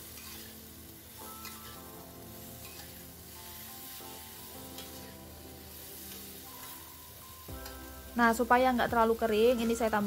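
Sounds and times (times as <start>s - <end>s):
metal spatula tossing food: 0.0s - 8.2s
background music: 0.0s - 10.0s
food sizzling in a wok: 0.0s - 10.0s.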